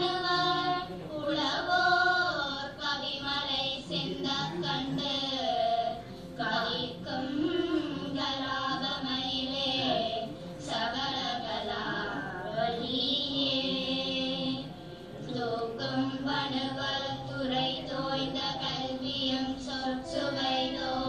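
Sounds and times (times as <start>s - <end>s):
girls singing a hymn in unison: 0.0s - 21.0s.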